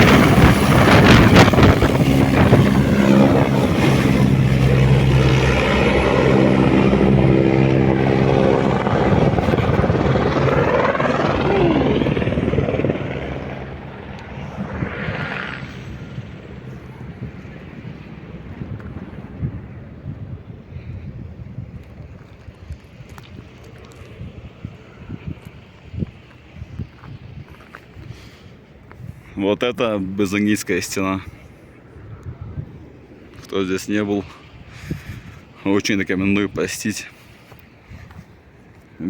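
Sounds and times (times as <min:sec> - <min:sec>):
helicopter rotor and engine drone: 0:00.0 - 0:29.0, 0:30.2 - 0:39.0.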